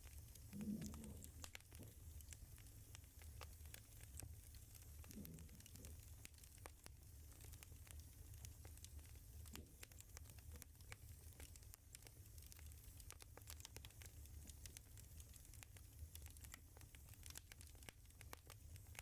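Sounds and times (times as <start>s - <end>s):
faint low hum: 0.0s - 19.0s
soft crackling clicks: 0.0s - 19.0s.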